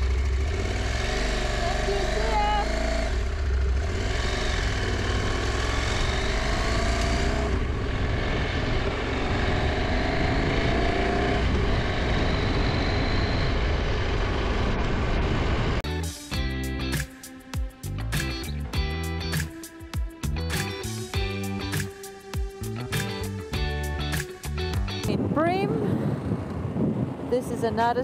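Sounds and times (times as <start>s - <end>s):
motorcycle engine accelerating: 0.0s - 27.4s.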